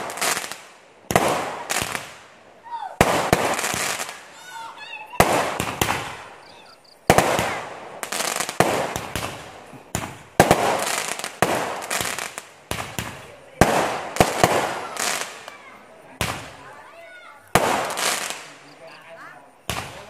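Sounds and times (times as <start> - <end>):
fireworks bangs with hiss: 0.0 - 20.0.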